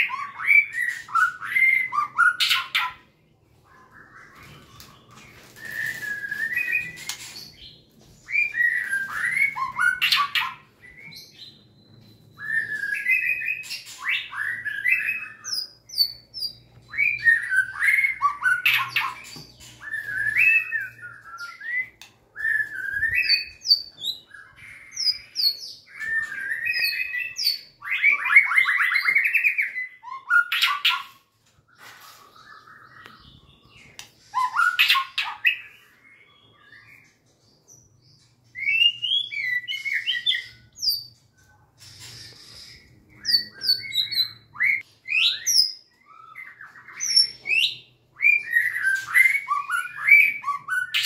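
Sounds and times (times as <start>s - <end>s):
songbird singing: 0.0s - 51.0s.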